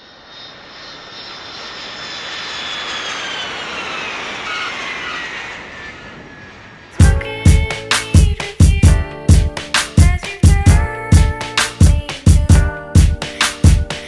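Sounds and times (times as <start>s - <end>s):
airliner cabin engine and air rush: 0.0s - 14.0s
high engine whine: 0.0s - 14.0s.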